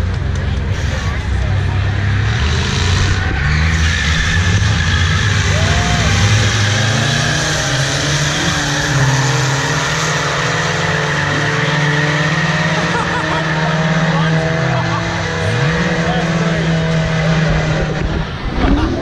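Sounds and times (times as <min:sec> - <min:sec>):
loud car engine running: 0:00.0 - 0:19.0.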